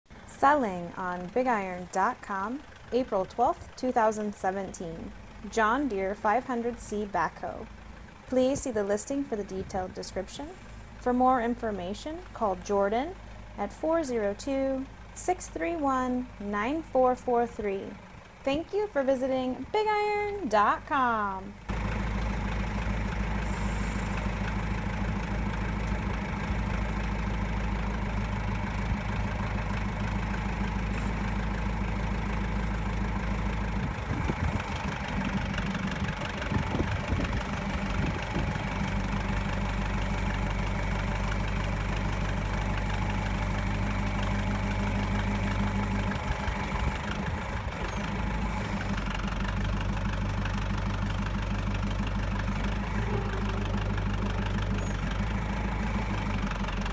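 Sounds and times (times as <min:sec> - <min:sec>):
backhoe engine idling: 0:00.1 - 0:56.9.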